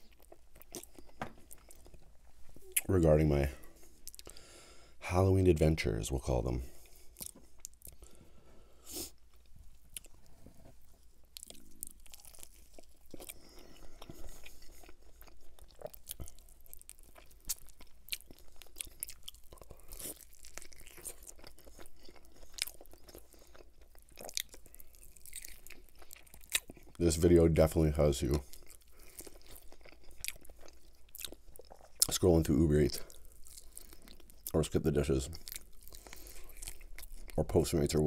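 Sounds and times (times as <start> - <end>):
person chewing chicken wings: 0.0 - 2.9, 3.6 - 4.5, 6.8 - 8.2, 8.9 - 27.2, 28.2 - 37.6.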